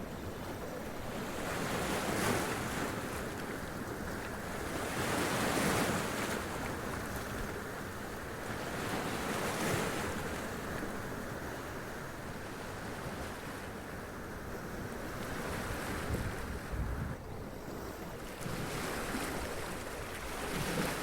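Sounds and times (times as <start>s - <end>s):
surf wash: 0.0s - 21.0s.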